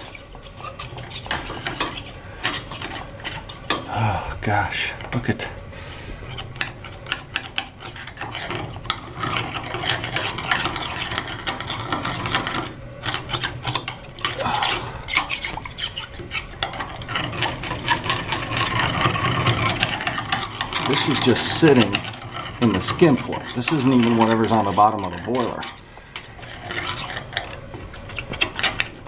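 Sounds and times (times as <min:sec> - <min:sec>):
tool scraping out boiler port: 0:00.0 - 0:29.0.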